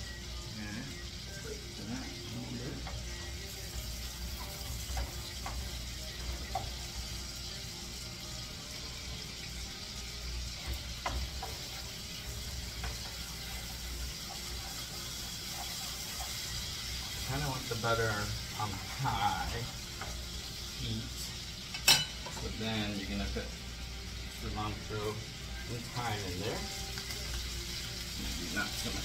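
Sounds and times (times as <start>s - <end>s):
butter sizzling in a frying pan: 0.0s - 29.0s.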